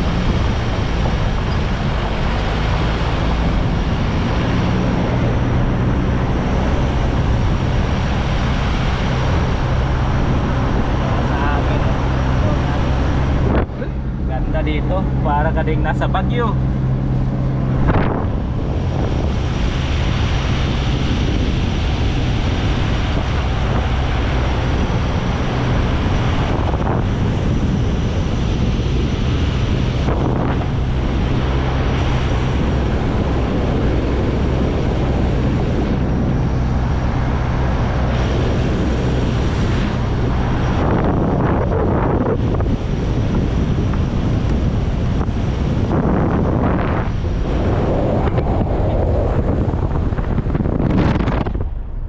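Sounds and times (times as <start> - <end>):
car engine and tyres hum: 0.0 - 52.0
wind on microphone: 0.0 - 52.0.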